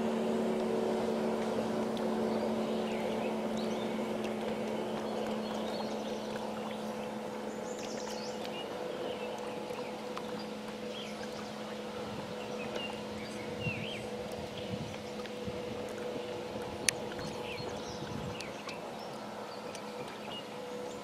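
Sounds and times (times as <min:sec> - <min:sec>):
outboard motor droning: 0:00.0 - 0:21.0.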